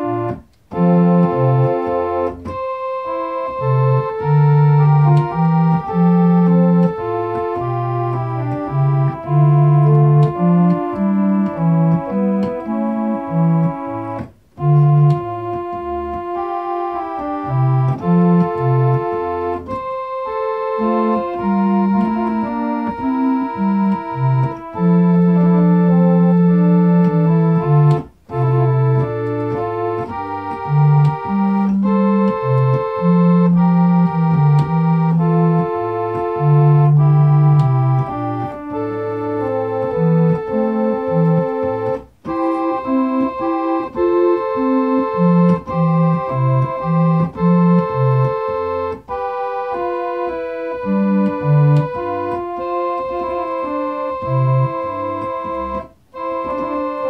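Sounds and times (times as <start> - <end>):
organ playing slow chords: 0.0 - 57.0.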